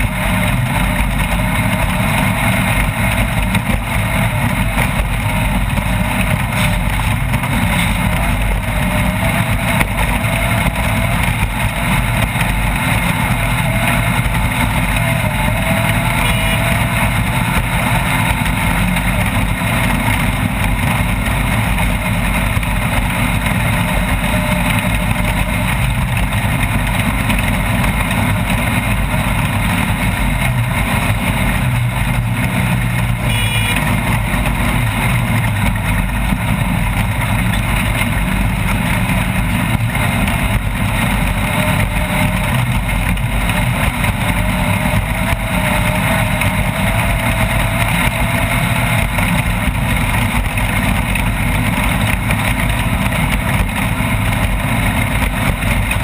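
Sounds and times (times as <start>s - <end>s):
loud driving noise: 0.0s - 56.0s
vehicle engine running: 0.0s - 56.0s.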